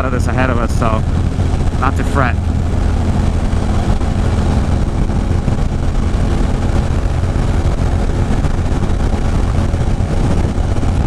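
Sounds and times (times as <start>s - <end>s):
motorcycle engine drone: 0.0s - 11.0s
wind and road noise: 0.0s - 11.0s.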